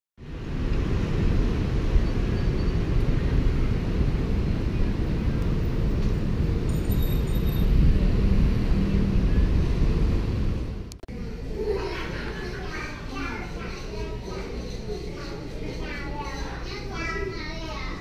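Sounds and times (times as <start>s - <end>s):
street traffic rumble: 0.2s - 18.0s.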